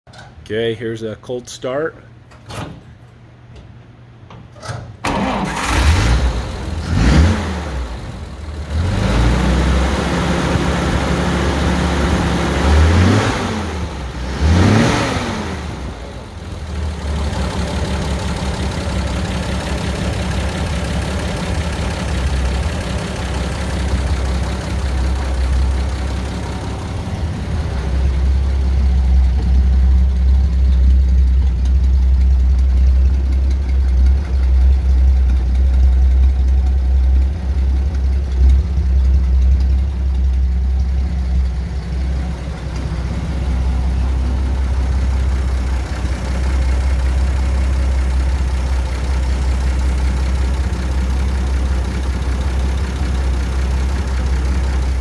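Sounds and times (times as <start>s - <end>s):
engine idling: 5.1s - 55.0s.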